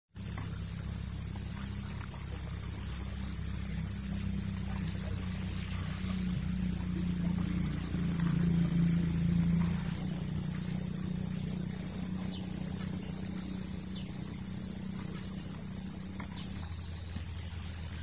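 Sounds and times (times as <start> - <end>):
insects droning: 0.1 - 18.0
low steady hum: 0.2 - 18.0.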